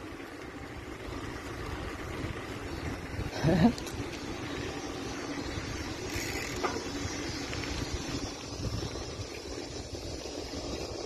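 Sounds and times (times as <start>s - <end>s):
bicycle running noise: 0.0s - 11.0s
wind rumble on microphone: 0.7s - 11.0s.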